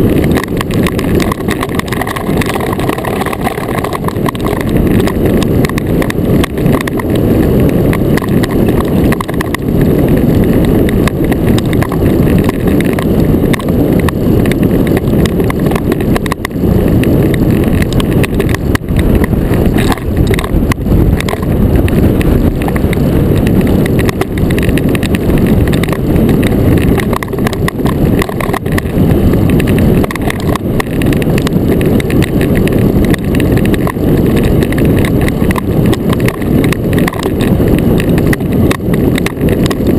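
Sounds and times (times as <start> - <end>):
steel runners rumbling on ice: 0.0 - 39.9
wind on microphone: 0.0 - 39.9.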